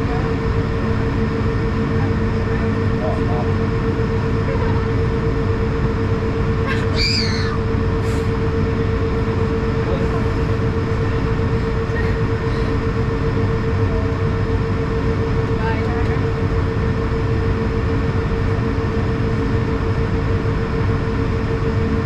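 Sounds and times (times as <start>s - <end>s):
aircraft cabin rumble and hum: 0.0s - 22.0s.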